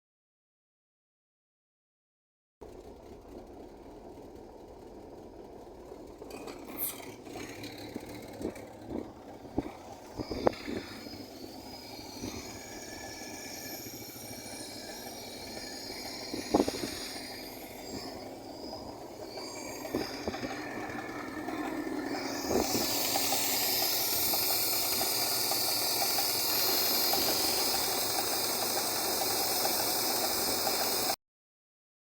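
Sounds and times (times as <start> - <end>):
engine running: 2.6 - 31.2.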